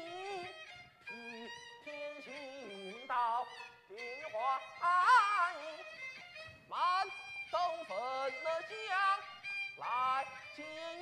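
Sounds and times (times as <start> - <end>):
bowed fiddle sliding notes: 0.0 - 11.0.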